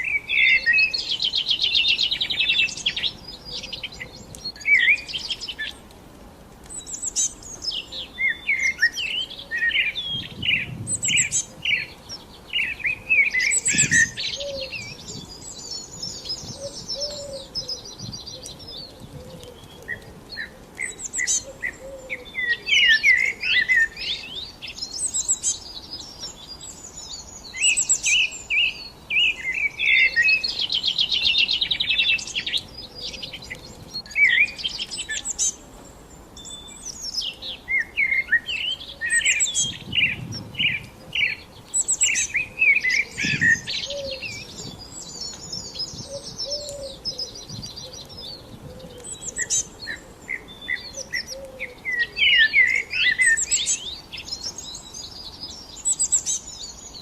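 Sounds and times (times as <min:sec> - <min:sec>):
songbirds chirping and whistling: 0:00.0 - 0:06.0, 0:06.6 - 0:57.0.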